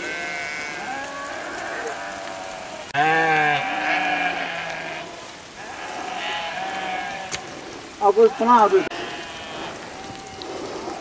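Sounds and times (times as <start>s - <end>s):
sheep bleating: 0.0s - 10.5s.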